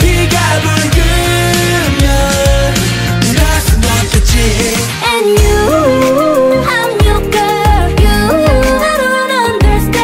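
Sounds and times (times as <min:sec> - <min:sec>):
pop song with dance beat: 0:00.0 - 0:10.0.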